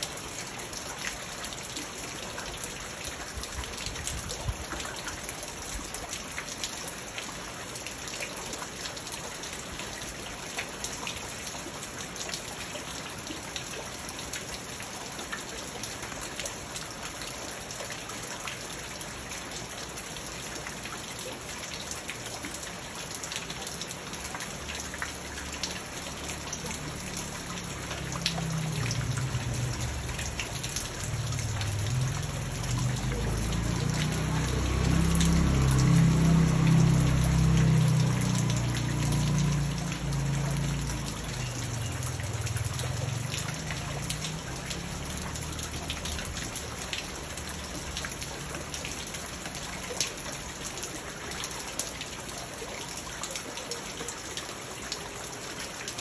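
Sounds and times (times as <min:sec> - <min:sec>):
rain falling on pond and leaves: 0:00.0 - 0:56.0
water splashing in pond: 0:00.0 - 0:56.0.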